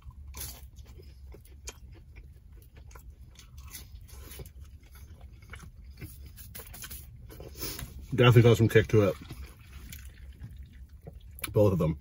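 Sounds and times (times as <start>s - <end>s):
chewing crunchy food: 0.0s - 11.9s.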